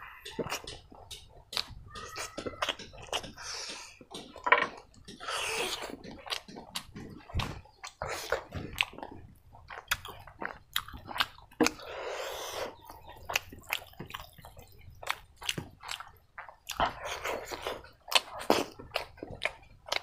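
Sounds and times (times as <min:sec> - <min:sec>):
wet chewing and lip smacking: 0:00.0 - 0:20.0.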